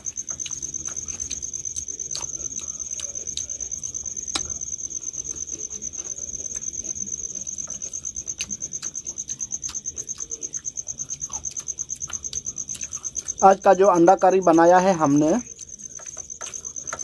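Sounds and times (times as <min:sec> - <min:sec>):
cricket chirping trill: 0:00.0 - 0:17.0.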